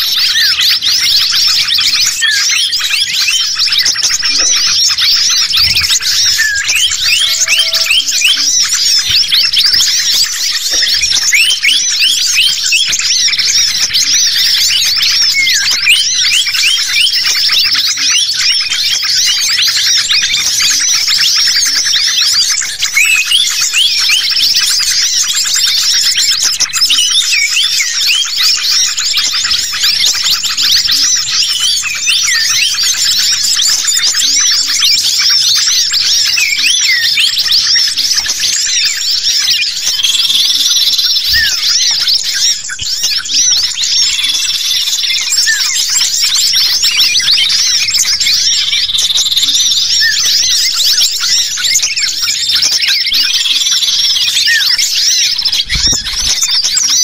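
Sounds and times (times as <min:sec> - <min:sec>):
chorus of small songbirds chirping: 0:00.0 - 0:57.0.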